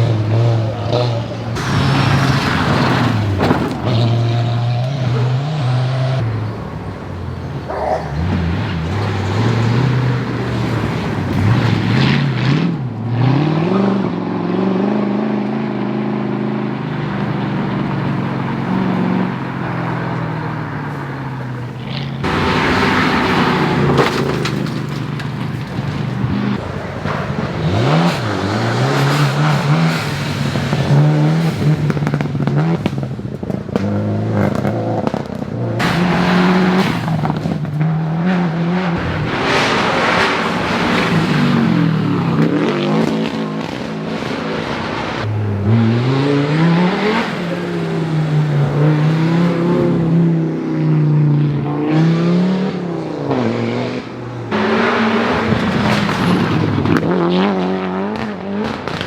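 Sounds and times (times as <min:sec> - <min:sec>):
car passing with crackles: 0:00.0 - 0:13.0, 0:15.0 - 0:52.0, 0:52.7 - 0:59.0
rally car engines revving: 0:00.0 - 0:59.0.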